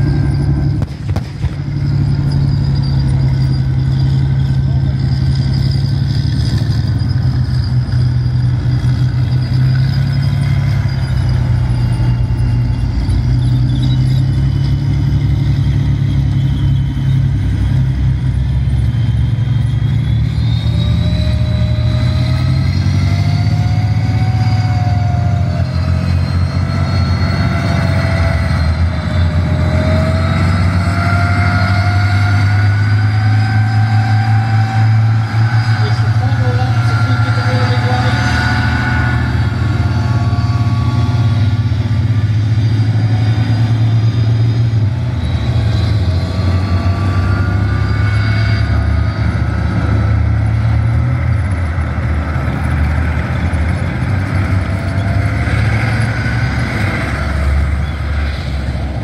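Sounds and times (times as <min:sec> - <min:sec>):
rumble of tank tracks: 0:00.0 - 0:59.0
tank engines running: 0:00.0 - 0:59.0
wavering whine of passing tank: 0:00.0 - 0:59.0.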